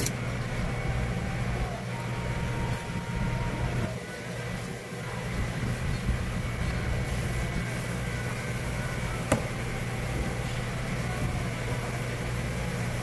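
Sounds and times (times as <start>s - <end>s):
low mechanical hum with whine: 0.0s - 13.0s.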